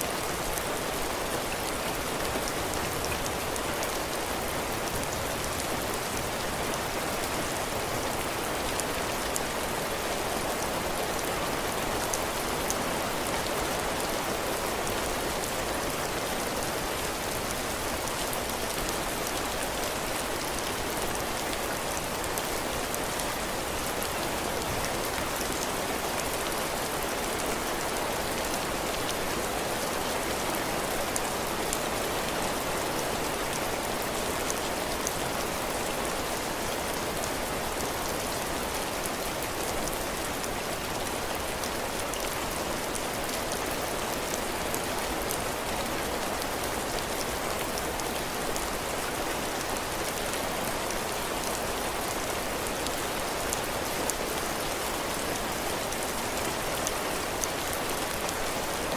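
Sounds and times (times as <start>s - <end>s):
heavy rain on a roof: 0.0s - 58.9s.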